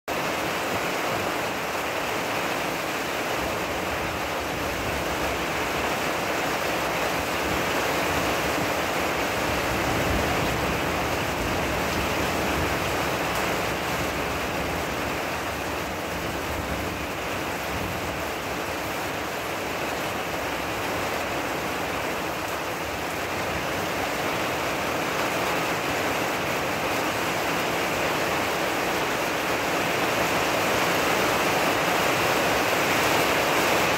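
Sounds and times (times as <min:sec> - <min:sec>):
rain shower: 0:00.1 - 0:33.9.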